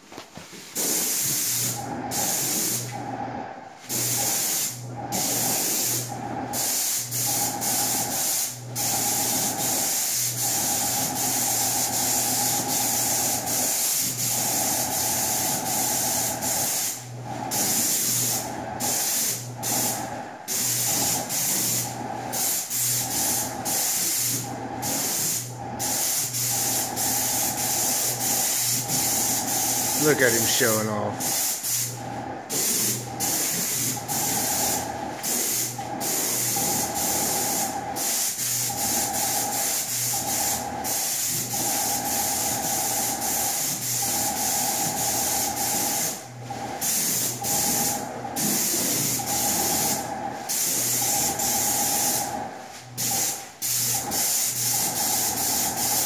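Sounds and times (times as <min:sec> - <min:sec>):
paint spray gun hissing: 0:00.8 - 0:02.9, 0:03.9 - 0:56.0.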